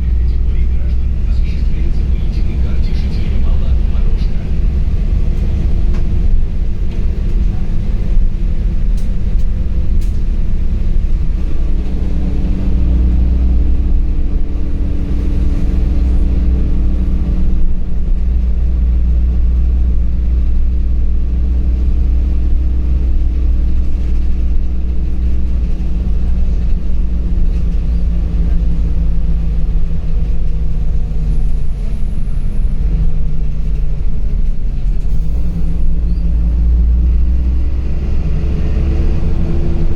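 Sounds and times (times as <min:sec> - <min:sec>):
bus engine rumbling: 0:00.0 - 0:39.9.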